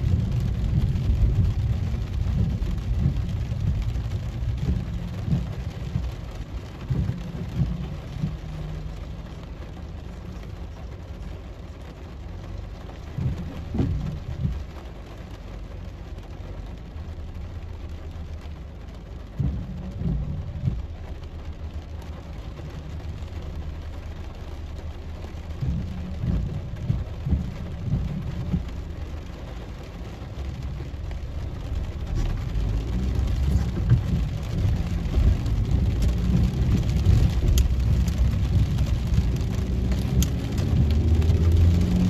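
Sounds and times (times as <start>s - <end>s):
rain on car windscreen: 0.0s - 42.0s
road and engine rumble: 0.0s - 42.0s
windscreen wiper sweeping: 0.0s - 42.0s.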